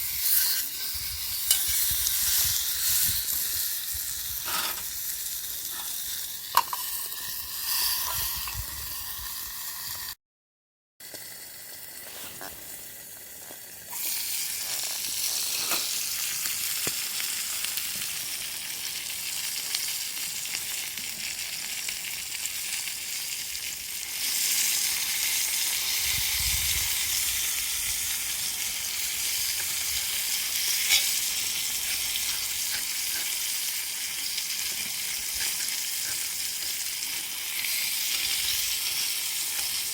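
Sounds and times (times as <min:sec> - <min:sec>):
food sizzling in a pan: 0:00.0 - 0:10.2, 0:11.0 - 0:39.9.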